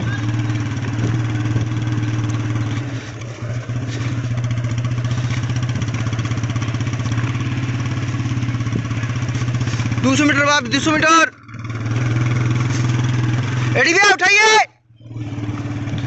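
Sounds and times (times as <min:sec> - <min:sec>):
engine running at low speed: 0:00.0 - 0:14.0, 0:14.8 - 0:16.0.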